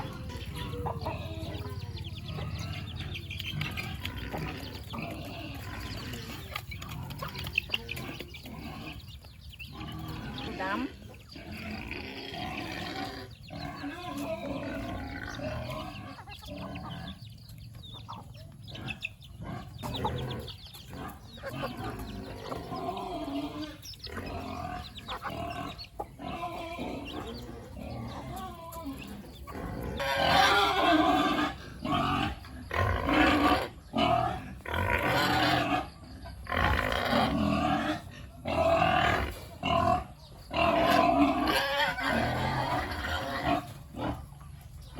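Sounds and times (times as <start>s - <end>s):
pigs grunting and calling: 0.0s - 44.9s.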